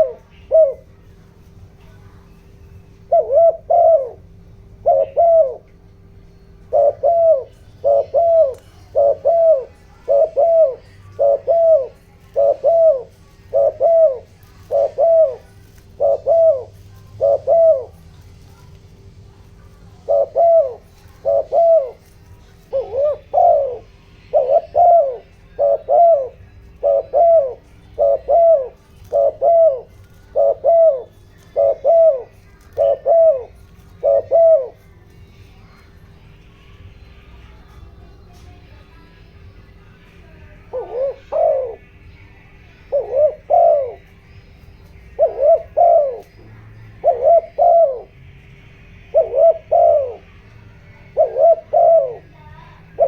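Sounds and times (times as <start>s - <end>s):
dove cooing: 0.0s - 39.0s, 39.6s - 53.0s
faint steady hum: 0.0s - 53.0s.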